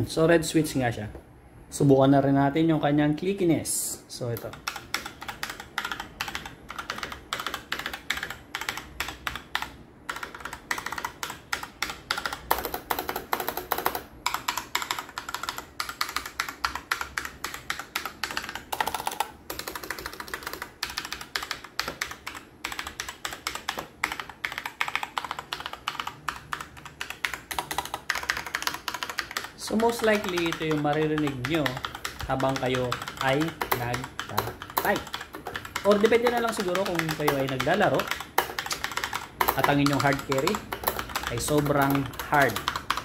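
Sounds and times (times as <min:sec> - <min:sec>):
mechanical keyboard typing: 0:04.2 - 0:43.0.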